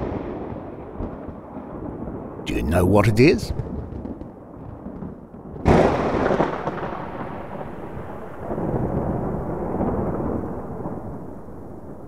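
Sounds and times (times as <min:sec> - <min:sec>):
thunder crack and rumble: 0:00.0 - 0:02.4, 0:03.5 - 0:12.0.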